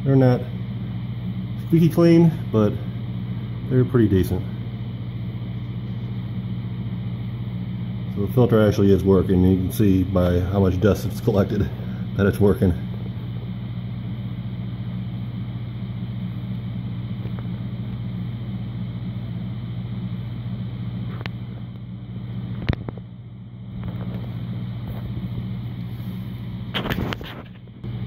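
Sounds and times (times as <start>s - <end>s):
refrigerator humming: 0.0s - 28.0s.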